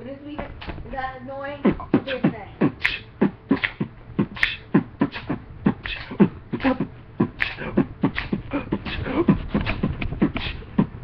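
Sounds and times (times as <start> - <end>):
beatboxing: 1.6 - 11.0.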